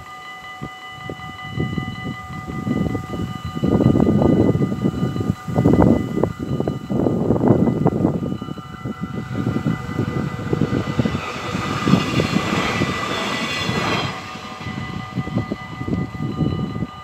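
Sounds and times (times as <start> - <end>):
diesel train passing: 0.0 - 17.0
level crossing bells ringing: 0.0 - 17.0
wind buffeting microphone: 0.6 - 17.0.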